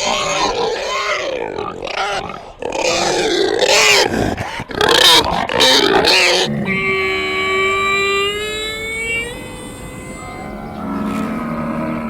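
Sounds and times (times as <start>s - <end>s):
loud animal calls: 0.0s - 12.0s.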